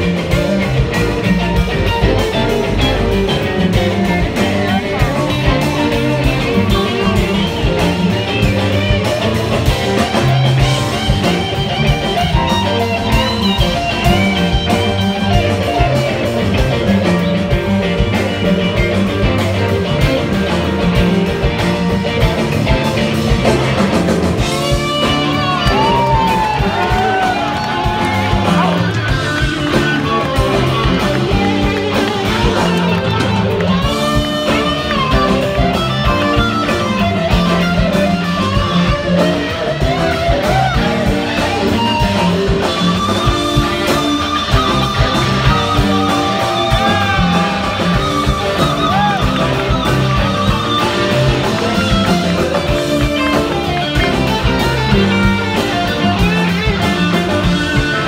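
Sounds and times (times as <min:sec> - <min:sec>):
electric guitar bending notes: 0:00.0 - 0:58.0
rock band playing: 0:00.0 - 0:58.0.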